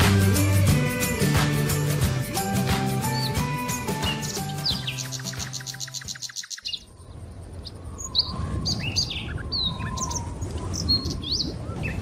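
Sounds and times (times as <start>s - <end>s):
birds chirping: 2.2s - 12.0s.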